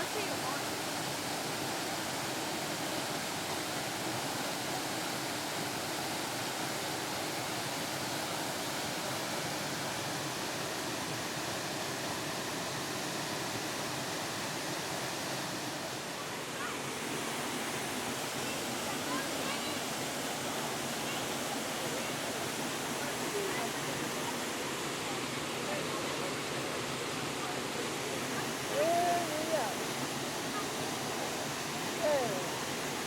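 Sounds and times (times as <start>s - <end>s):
rushing flowing water: 0.0s - 33.0s.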